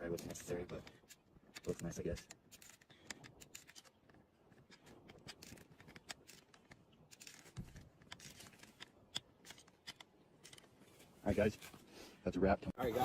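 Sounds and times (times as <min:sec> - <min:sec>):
faint clicks and rustling: 0:00.0 - 0:11.9.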